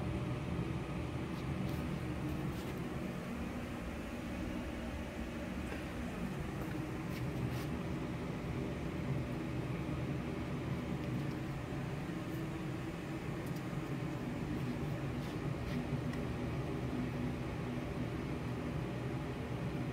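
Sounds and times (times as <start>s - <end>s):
machine hum: 0.0s - 19.9s.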